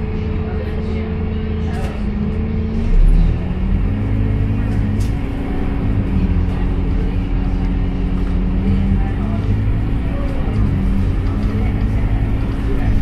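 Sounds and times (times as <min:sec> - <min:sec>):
bus diesel engine humming: 0:00.0 - 0:13.0.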